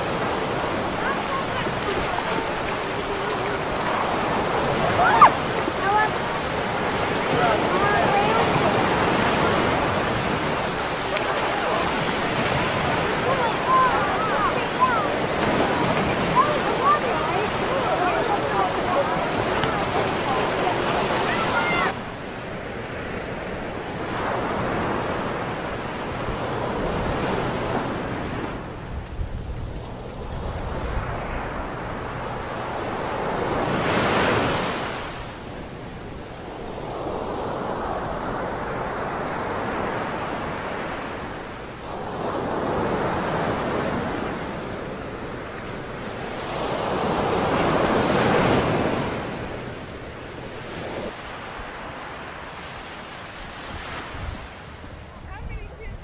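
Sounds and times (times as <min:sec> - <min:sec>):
wind buffeting microphone: 0:00.0 - 0:51.1
waves breaking on beach: 0:00.0 - 0:56.0.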